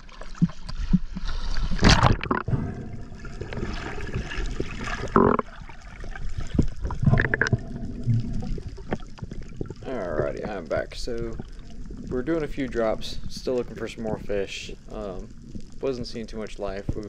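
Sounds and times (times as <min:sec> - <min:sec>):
water sloshing and splashing: 0:00.0 - 0:15.9
underwater gurgle and bubbles: 0:00.0 - 0:17.0.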